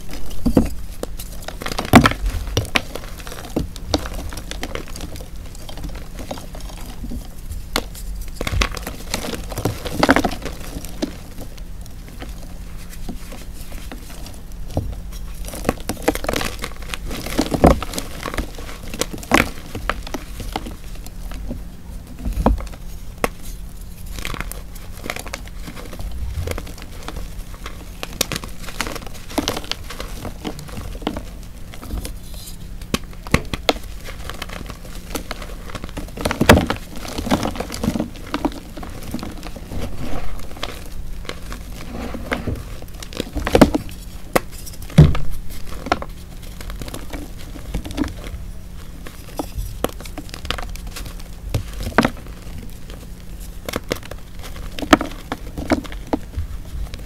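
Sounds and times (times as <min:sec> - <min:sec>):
chalk crunching and crumbling: 0:00.0 - 0:57.0.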